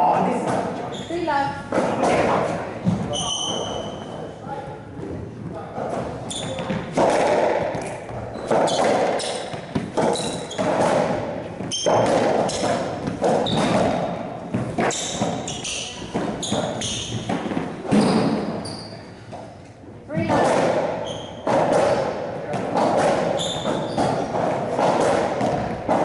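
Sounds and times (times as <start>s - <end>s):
ball hitting racquets and walls: 0.3s - 1.0s, 1.6s - 26.0s
shoes squeaking on court floor: 0.5s - 4.7s, 5.8s - 7.0s, 7.6s - 19.7s, 20.9s - 26.0s.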